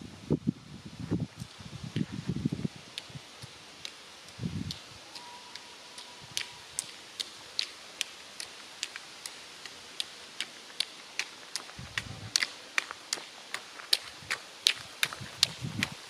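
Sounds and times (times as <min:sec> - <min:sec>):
pole tips clicking on gravel: 0:02.9 - 0:16.0.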